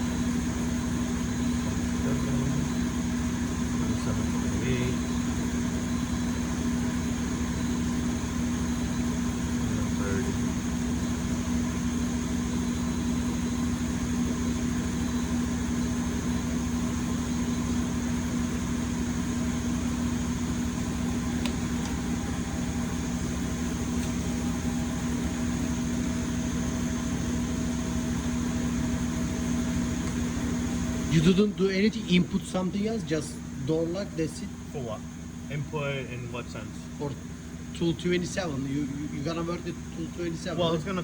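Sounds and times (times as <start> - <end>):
milling machine humming: 0.0 - 41.0.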